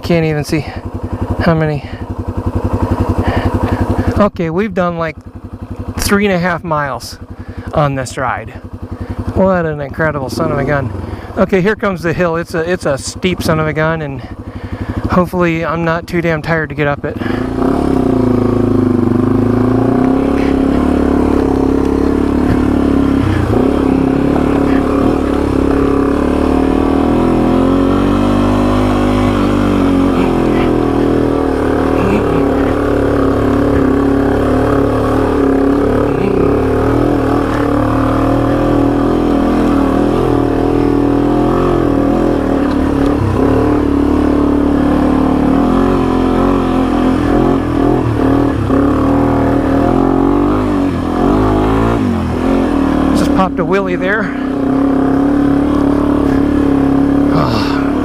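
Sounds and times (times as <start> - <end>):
motorcycle engine revving under load: 0.0 - 58.0.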